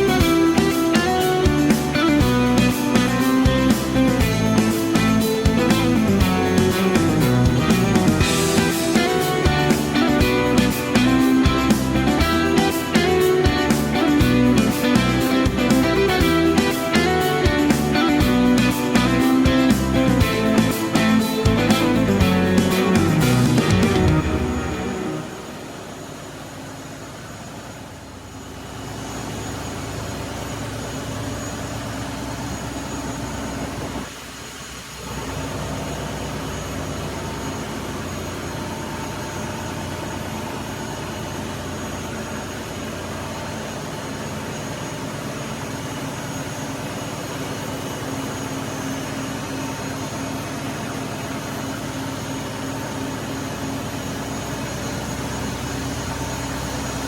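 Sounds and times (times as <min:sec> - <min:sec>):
diesel generator engines droning: 0:00.0 - 0:57.0.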